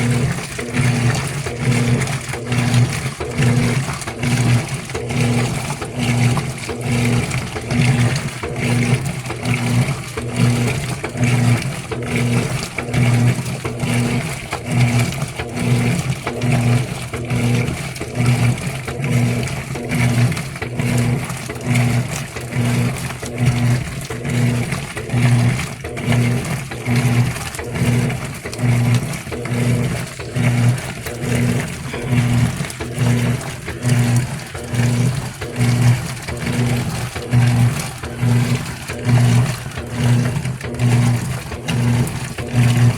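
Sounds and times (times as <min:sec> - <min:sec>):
washing machine agitating: 0:00.0 - 0:42.9.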